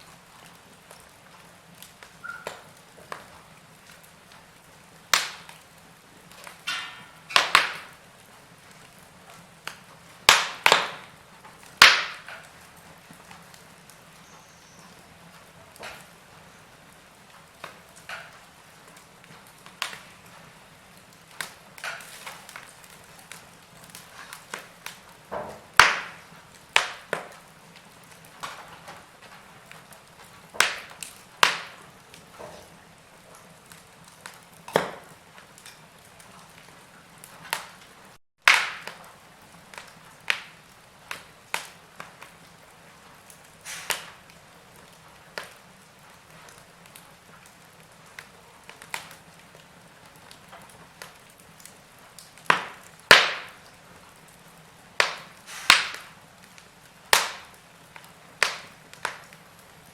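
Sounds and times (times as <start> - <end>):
faint steady hiss: 0.0 - 59.9
logs crackling and popping: 0.0 - 59.9.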